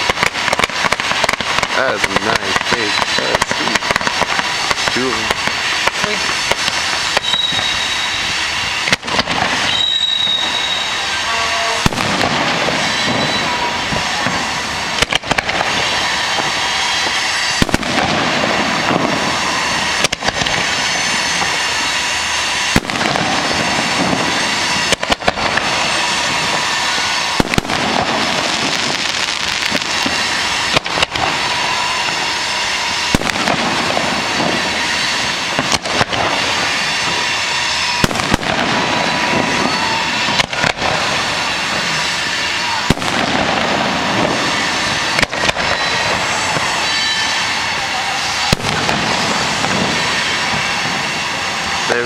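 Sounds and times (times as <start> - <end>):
fireworks bursting with bangs: 0.0 - 52.0
fireworks crackle: 0.0 - 52.0.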